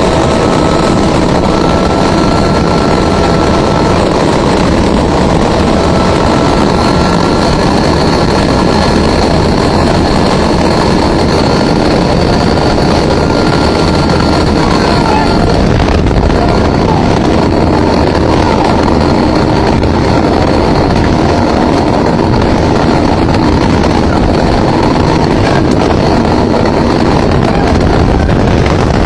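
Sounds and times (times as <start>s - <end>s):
helicopter running: 0.0s - 29.0s.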